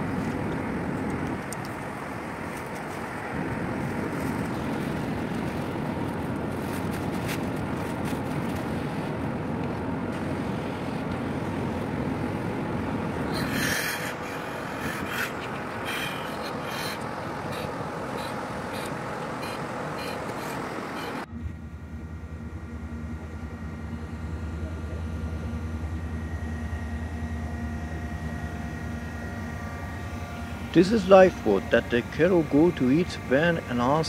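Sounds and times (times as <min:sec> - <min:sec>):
outdoor rumble: 0:00.0 - 0:34.0.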